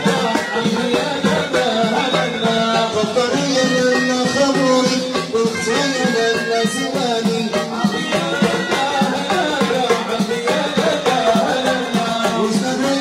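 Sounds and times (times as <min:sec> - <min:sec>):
drum beaten with sticks: 0:00.0 - 0:13.0
frame drums with jingles: 0:00.0 - 0:13.0
men singing: 0:00.0 - 0:13.0.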